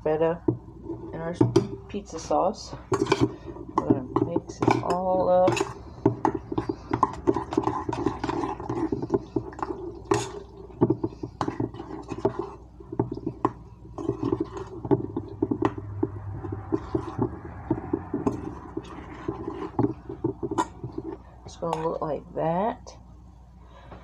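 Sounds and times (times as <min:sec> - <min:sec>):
spoon tapping and scraping metal bowl: 0:00.4 - 0:22.0.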